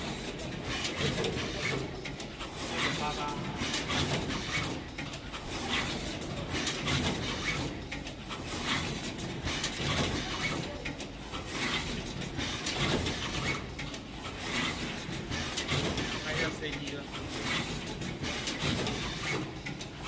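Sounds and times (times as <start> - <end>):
machine clicks and knocks: 0.0 - 20.0
steady machine noise: 0.0 - 20.0.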